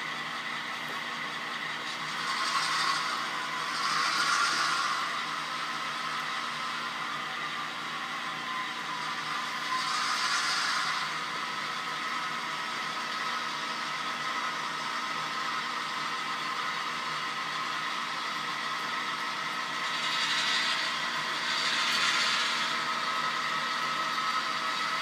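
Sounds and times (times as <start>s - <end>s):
continuous locomotive hum: 0.0s - 25.0s.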